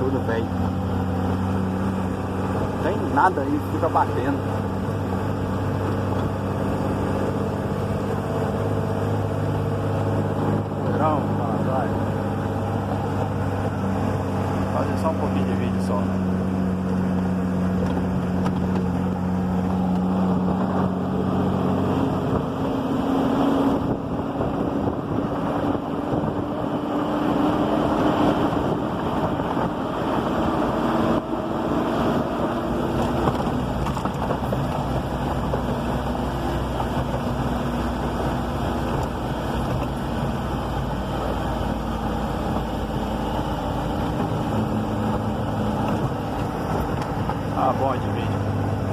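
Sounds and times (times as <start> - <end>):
road rumble: 0.0 - 48.9
truck engine running: 0.0 - 48.9.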